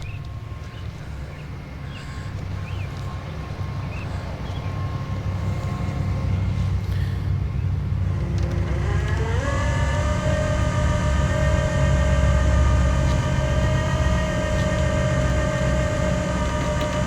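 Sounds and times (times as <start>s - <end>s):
hydraulic pump whine: 0.0s - 17.0s
truck engine rumbling: 0.0s - 17.0s.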